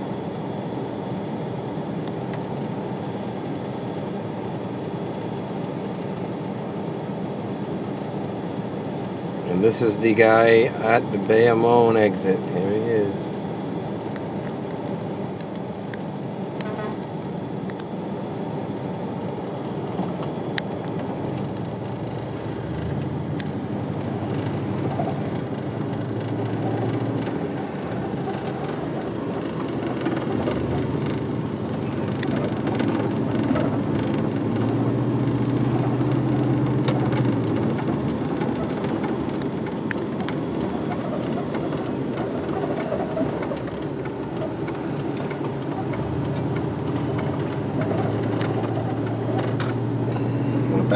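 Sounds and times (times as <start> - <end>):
deep engine hum: 0.0 - 50.9
road traffic rumble: 0.0 - 50.9.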